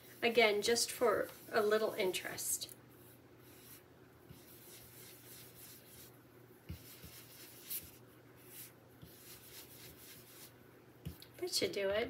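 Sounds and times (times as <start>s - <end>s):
brush rubbing on paper: 0.0s - 10.6s.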